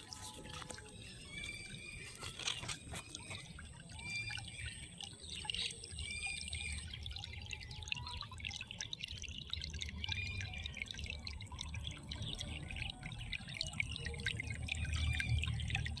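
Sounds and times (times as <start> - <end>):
rainwater dripping: 0.0 - 16.0.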